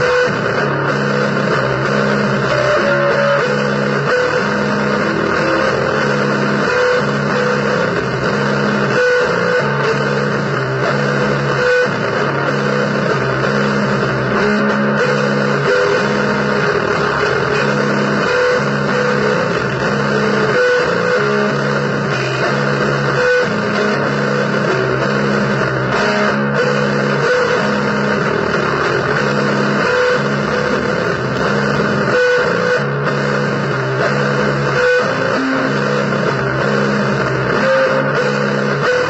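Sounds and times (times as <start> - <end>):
distorted guitar noise music: 0.0 - 39.0.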